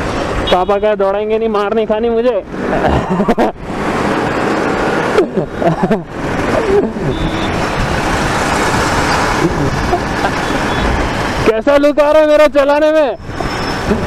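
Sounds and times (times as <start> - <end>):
road traffic: 0.0 - 14.0
wind rush on microphone: 2.4 - 14.0.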